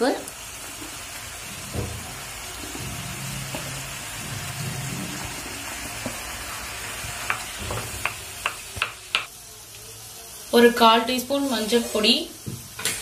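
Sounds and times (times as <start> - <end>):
vegetables sizzling in frying pan: 0.0 - 13.0.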